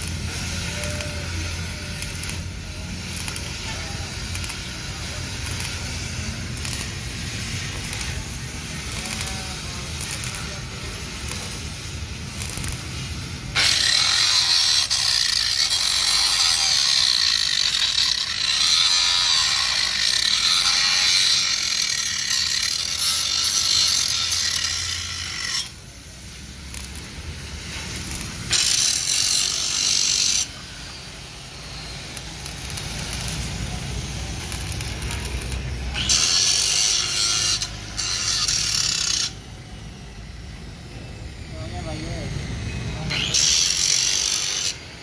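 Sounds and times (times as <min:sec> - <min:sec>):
welding arc crackling: 0:00.0 - 0:45.0.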